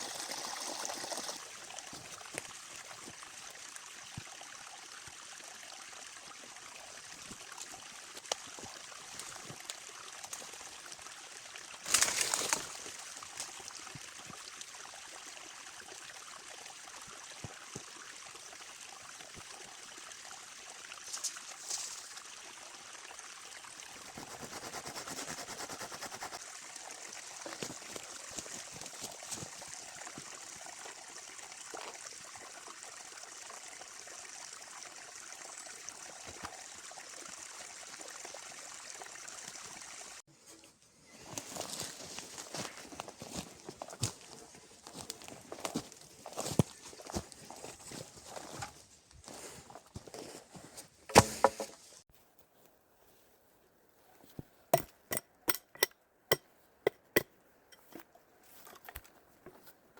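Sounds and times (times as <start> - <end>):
forest stream trickling: 0.0 - 53.3, 53.9 - 59.9.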